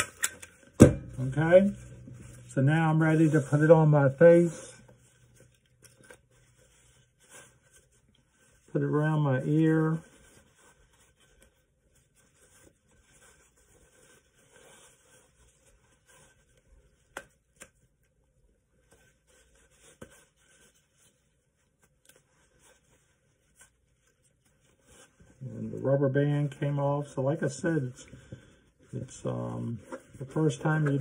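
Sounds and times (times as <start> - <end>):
paper towel rustling: 0.5 - 31.0.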